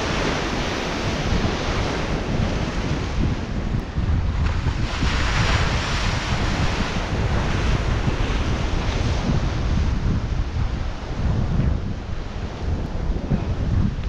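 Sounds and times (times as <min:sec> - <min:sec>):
surf breaking on rocks: 0:00.0 - 0:14.0
wind buffeting microphone: 0:00.0 - 0:14.0.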